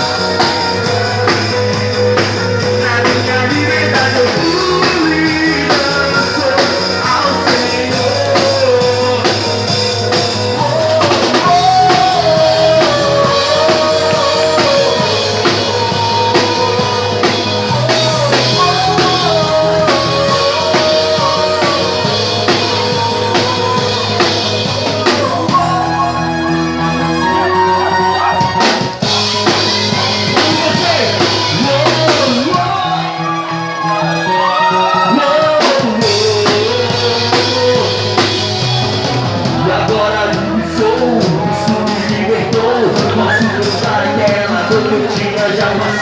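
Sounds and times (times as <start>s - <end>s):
rock band playing: 0.0s - 46.0s.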